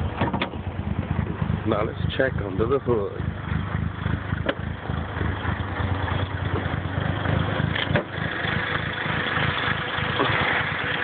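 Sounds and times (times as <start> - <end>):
car engine idling with choppy lope: 0.0 - 11.0.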